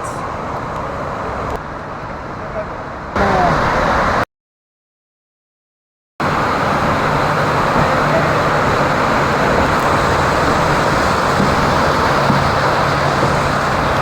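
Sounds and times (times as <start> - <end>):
water rushing: 0.0 - 4.2, 6.2 - 14.0.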